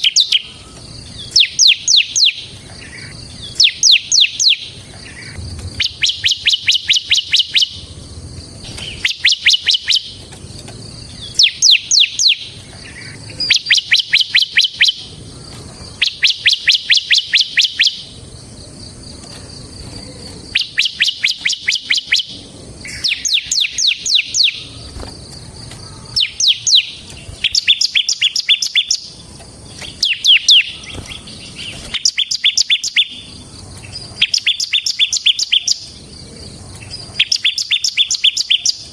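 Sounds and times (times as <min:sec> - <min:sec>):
bird singing rapid drilling song: 0:00.0 - 0:38.9.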